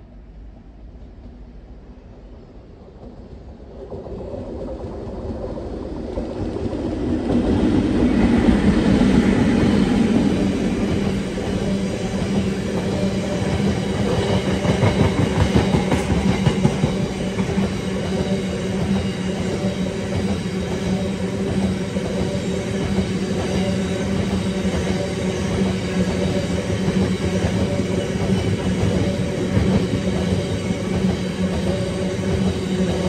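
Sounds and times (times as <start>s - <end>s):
train wheels clattering on rails: 2.8s - 33.0s.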